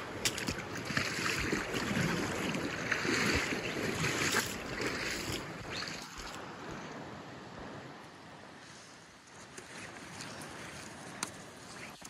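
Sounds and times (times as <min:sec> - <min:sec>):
river current rushing: 0:00.0 - 0:12.0
wind rumbling on microphone: 0:00.0 - 0:12.0.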